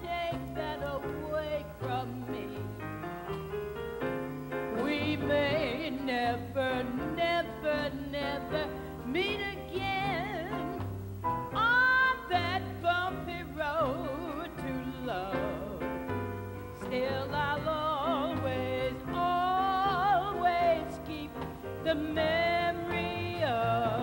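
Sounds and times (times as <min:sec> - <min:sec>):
walking double bass: 0:00.0 - 0:24.0.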